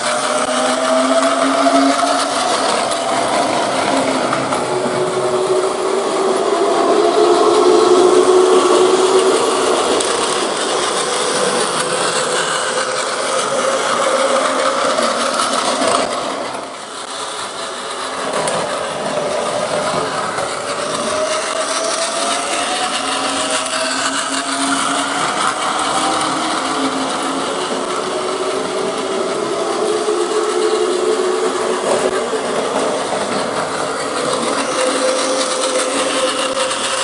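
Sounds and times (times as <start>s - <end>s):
train motor whining: 0.0s - 37.0s
train rattling hum: 0.0s - 37.0s.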